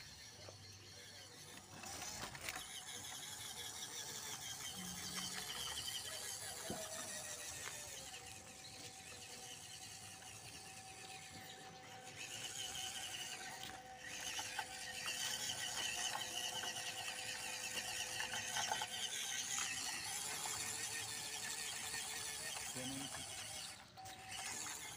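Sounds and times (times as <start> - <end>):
toy truck motor whining: 0.0 - 24.9.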